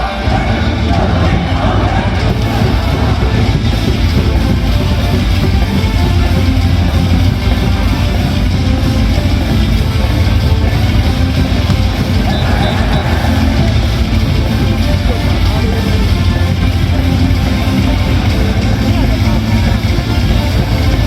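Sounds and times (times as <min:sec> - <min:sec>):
loud rock music with electric guitar: 0:00.0 - 0:21.0.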